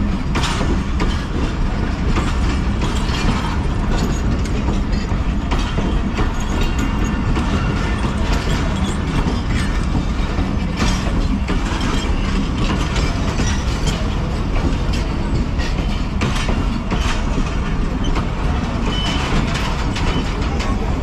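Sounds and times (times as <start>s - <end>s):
train rumbling on track: 0.0s - 21.0s
wheels clicking over rail joints: 0.0s - 21.0s.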